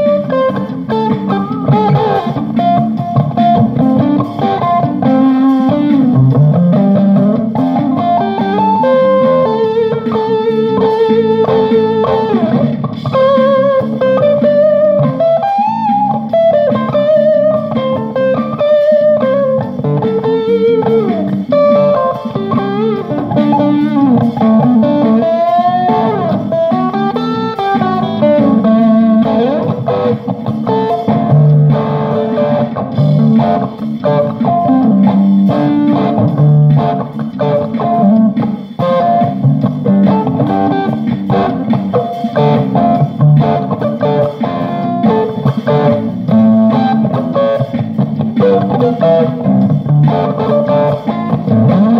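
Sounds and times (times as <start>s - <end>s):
electric guitar melody: 0.0s - 51.9s.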